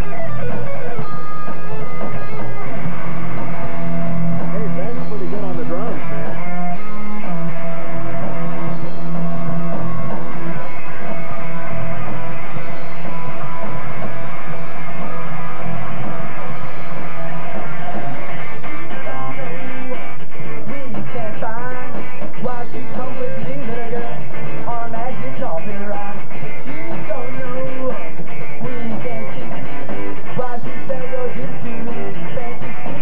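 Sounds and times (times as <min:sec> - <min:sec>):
bass guitar: 0:00.0 - 0:33.0
drums: 0:00.0 - 0:33.0
electric guitar: 0:00.0 - 0:33.0.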